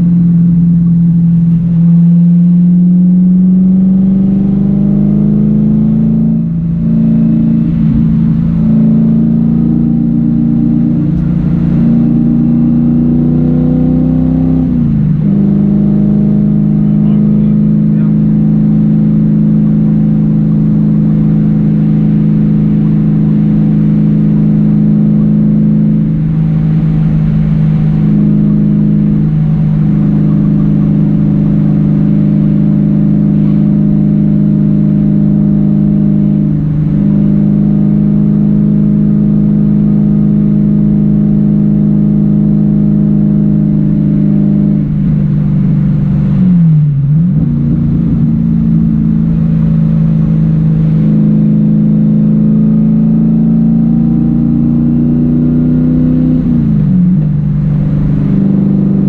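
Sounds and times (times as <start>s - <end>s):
car engine revving at high revs: 0.0s - 59.0s.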